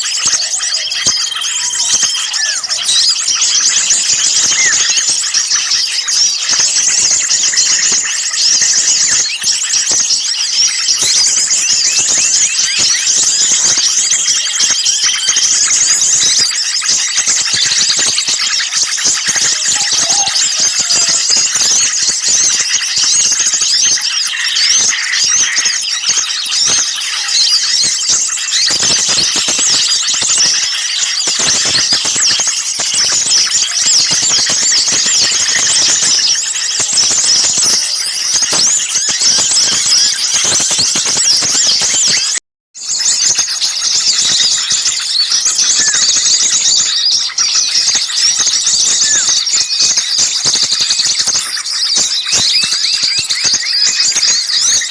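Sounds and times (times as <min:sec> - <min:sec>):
small songbirds chattering: 0:00.0 - 0:54.9.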